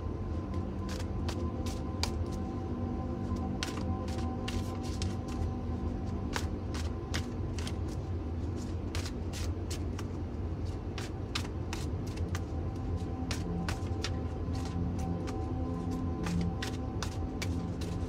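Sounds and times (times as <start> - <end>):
steady low hum: 0.0 - 18.0
cards being shuffled: 0.8 - 2.4, 3.4 - 18.0.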